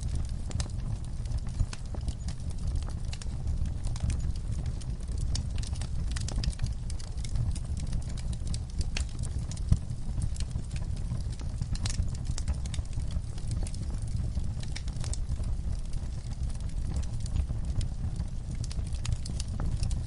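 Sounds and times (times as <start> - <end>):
steady low rumble: 0.0 - 20.0
wood fire crackling and popping: 0.0 - 20.0.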